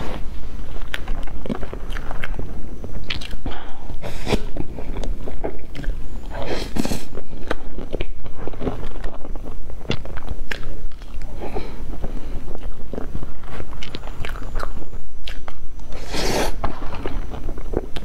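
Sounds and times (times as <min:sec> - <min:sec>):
wet chewing and lip smacking: 0:00.7 - 0:16.0.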